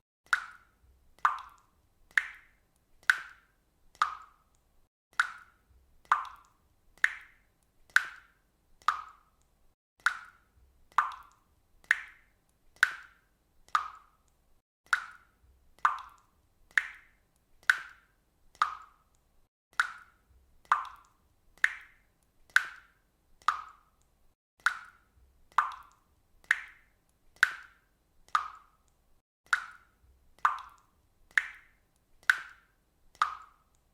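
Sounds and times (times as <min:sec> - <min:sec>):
water dripping: 0:00.2 - 0:33.9.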